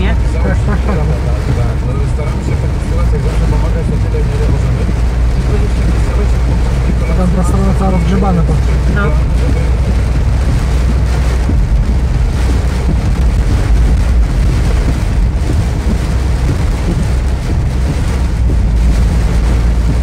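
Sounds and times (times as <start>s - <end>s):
car road and engine noise: 0.0s - 20.0s
rain on windscreen: 0.0s - 20.0s
tyres hissing on wet road: 0.0s - 20.0s.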